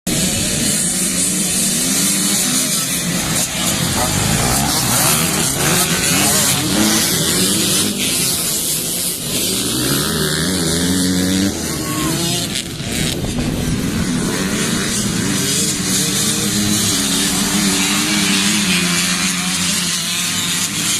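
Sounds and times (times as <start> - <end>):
dirt bike engines revving: 0.0 - 20.9.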